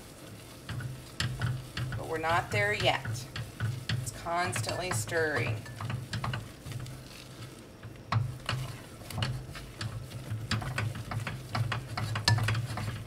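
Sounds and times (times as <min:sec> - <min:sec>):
wooden spoon stirring thick curd: 0:00.0 - 0:13.0
spoon knocking and scraping pot: 0:00.6 - 0:13.0.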